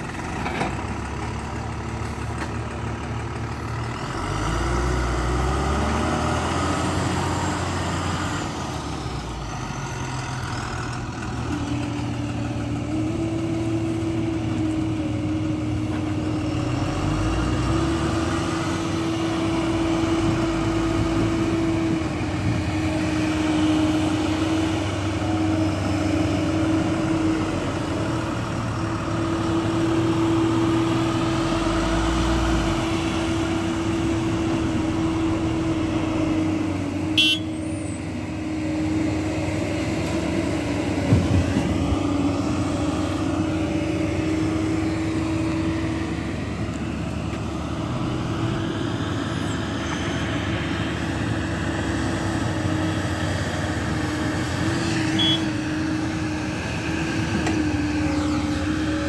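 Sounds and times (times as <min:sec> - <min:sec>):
heavy diesel engines running: 0:00.0 - 0:59.0.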